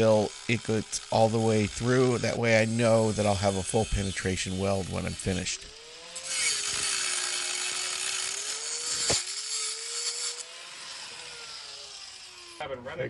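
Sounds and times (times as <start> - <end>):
cutoff grinder whining: 0.0 - 12.6
grinder wheel grinding steel: 0.0 - 12.6.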